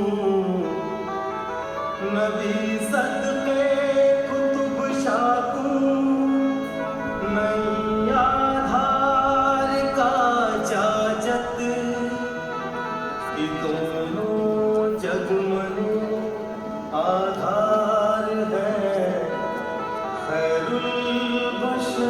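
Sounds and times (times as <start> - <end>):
instrumental accompaniment: 0.0 - 22.0
person singing long ornamented notes: 0.0 - 22.0.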